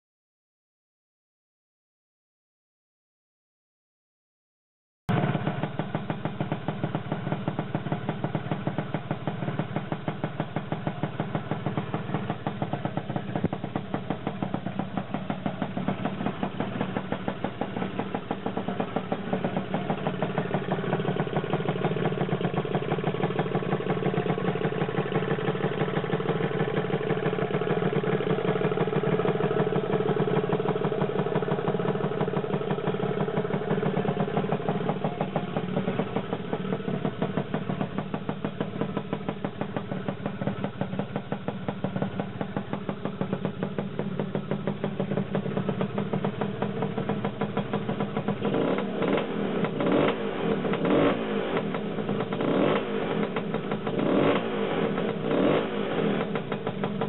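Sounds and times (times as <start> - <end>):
scooter engine idling: 5.1 - 57.0.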